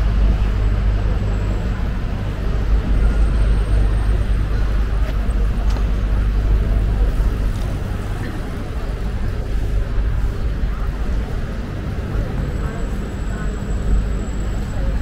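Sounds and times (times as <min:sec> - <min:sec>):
faint voices of passers-by: 0:00.0 - 0:15.0
low traffic rumble: 0:00.0 - 0:15.0.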